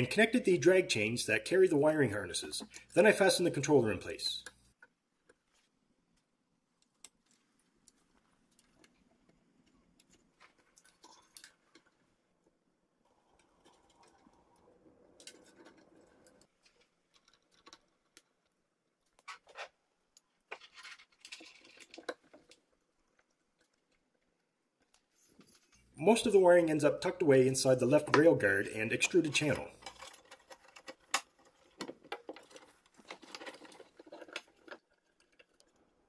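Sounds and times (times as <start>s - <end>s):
wiring rustling: 4.0s - 36.0s.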